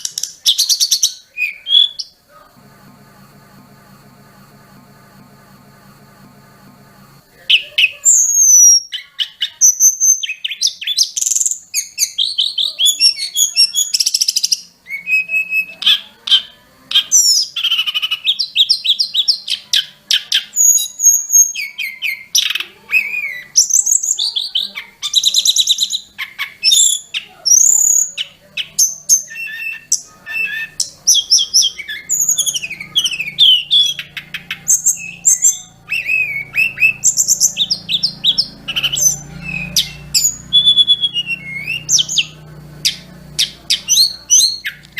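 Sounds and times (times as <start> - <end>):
songbird singing: 0.0 - 2.4, 7.2 - 44.9.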